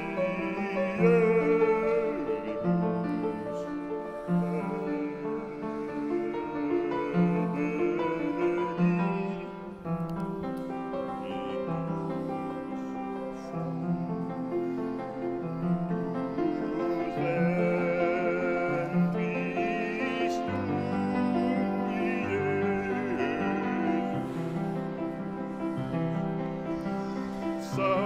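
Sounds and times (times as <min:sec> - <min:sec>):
person singing with vibrato: 0:00.0 - 0:28.0
upright piano playing: 0:00.0 - 0:28.0.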